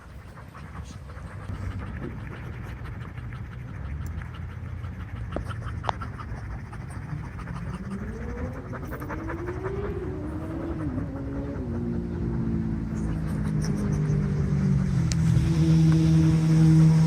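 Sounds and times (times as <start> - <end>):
dogs panting: 0.0 - 15.5.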